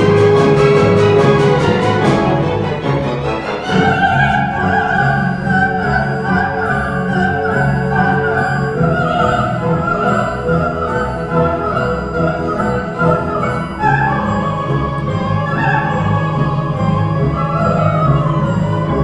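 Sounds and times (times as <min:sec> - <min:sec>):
orchestra strings: 0:00.0 - 0:19.0
soprano singing wordless vocalise: 0:00.0 - 0:19.0.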